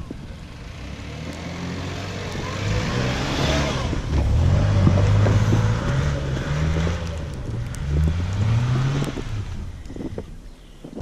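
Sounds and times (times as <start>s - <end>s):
tyres spinning in snow: 0.3s - 10.1s
car engine revving: 0.4s - 9.7s.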